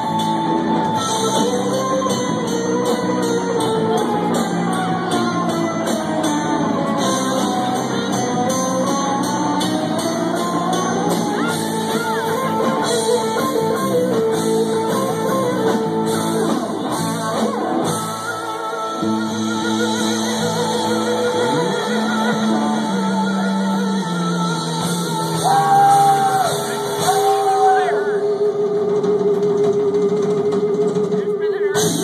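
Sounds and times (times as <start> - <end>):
bending electric guitar lead line: 0.0 - 32.0
live rock band playing: 0.0 - 32.0.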